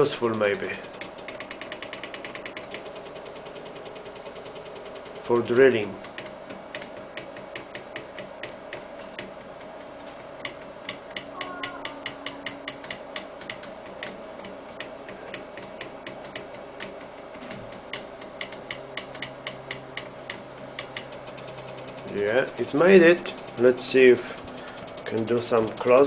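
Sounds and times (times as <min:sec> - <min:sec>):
faint steady hum: 0:00.0 - 0:26.0
stepper motors ticking: 0:00.0 - 0:26.0.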